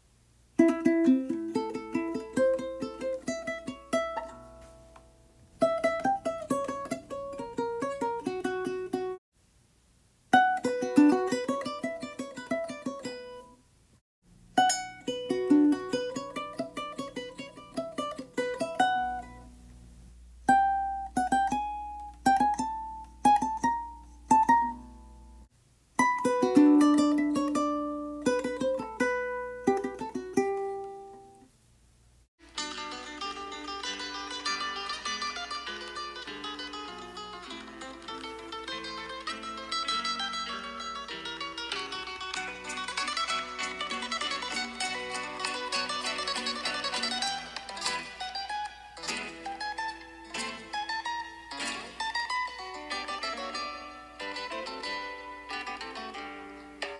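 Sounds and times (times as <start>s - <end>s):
guitar picking a melody: 0.6s - 9.2s, 10.3s - 13.6s, 14.6s - 19.8s, 20.4s - 31.5s, 32.4s - 56.9s.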